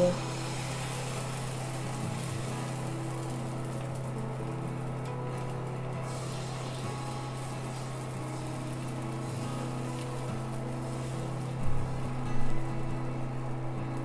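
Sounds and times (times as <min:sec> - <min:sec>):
low electrical hum of cooktop: 0:00.0 - 0:14.0.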